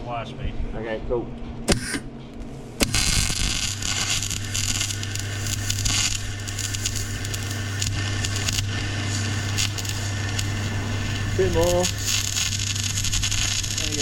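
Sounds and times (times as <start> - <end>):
steady low hum: 0.0 - 14.0
welder arc crackling: 1.7 - 14.0.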